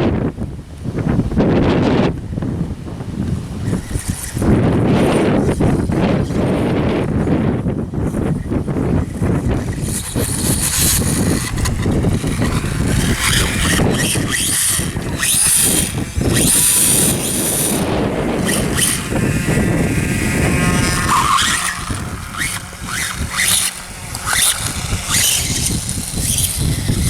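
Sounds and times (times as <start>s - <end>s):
wind rumbling on microphone: 0.0s - 27.0s
electric motor whining: 3.1s - 27.0s.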